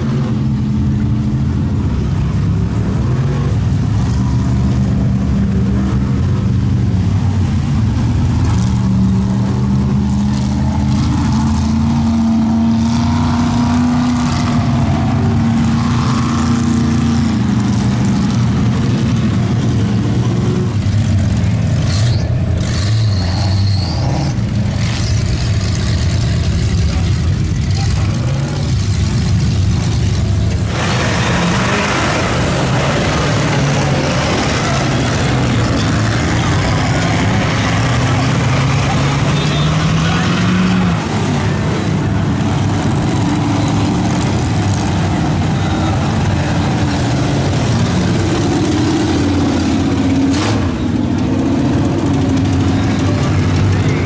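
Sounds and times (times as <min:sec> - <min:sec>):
vehicle engine running under load: 0:00.0 - 0:54.0.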